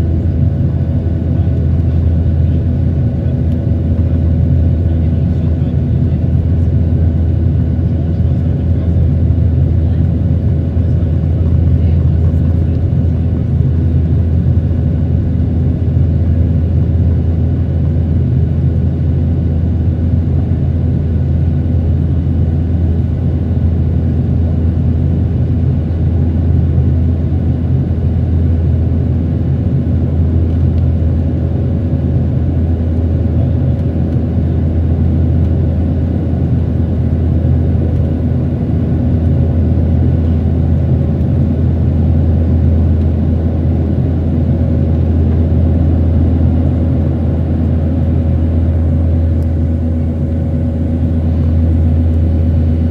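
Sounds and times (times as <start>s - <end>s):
jet engine and airflow drone: 0.0s - 52.9s.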